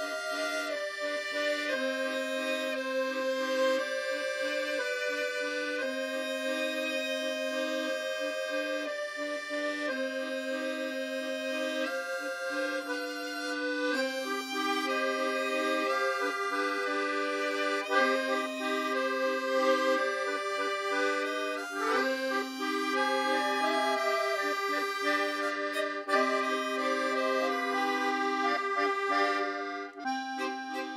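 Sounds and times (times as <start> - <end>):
instrumental music with held chords: 0.0 - 30.9.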